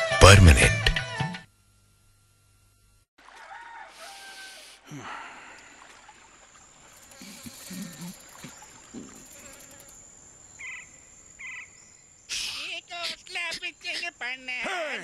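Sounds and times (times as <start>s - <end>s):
insects buzzing: 1.6s - 15.0s.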